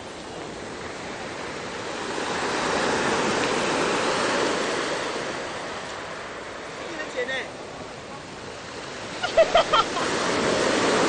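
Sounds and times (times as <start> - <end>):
wave breaking on beach: 0.0 - 11.0.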